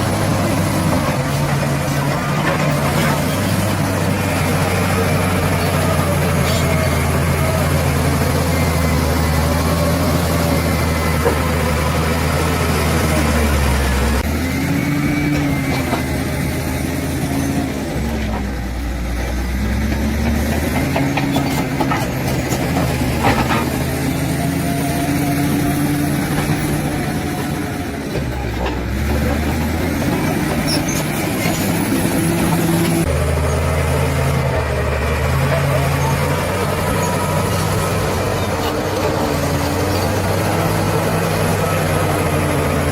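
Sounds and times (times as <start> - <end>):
bulldozer diesel engine: 0.0 - 42.9.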